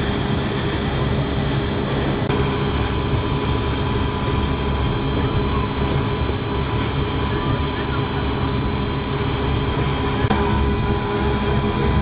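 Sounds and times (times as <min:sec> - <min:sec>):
steady engine drone: 0:00.0 - 0:12.0.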